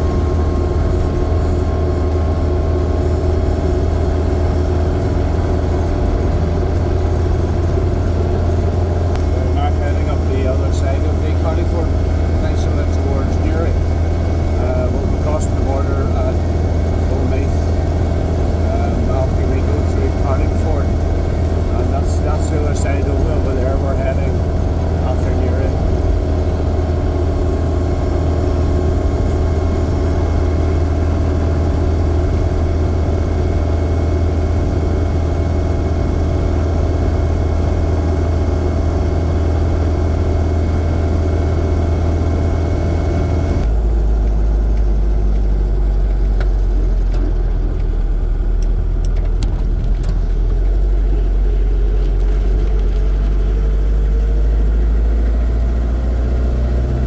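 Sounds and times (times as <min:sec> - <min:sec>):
engine and drivetrain droning: 0:00.0 - 0:57.0.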